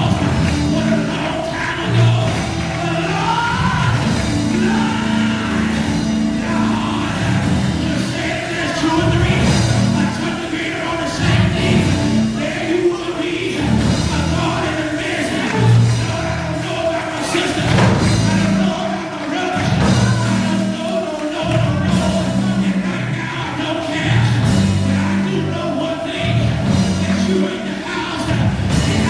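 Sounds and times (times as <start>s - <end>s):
gospel band playing: 0.0s - 29.0s
held bass notes: 0.0s - 29.0s.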